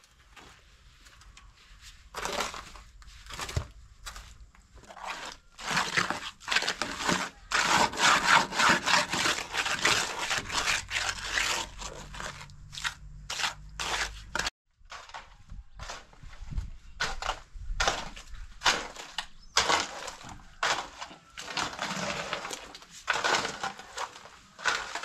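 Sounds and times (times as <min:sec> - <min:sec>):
rough scraping and rubbing: 0:00.2 - 0:25.0.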